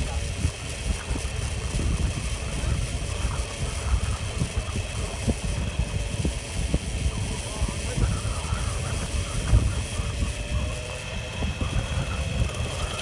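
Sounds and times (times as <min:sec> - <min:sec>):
gusting wind buffeting microphone: 0:00.0 - 0:13.0.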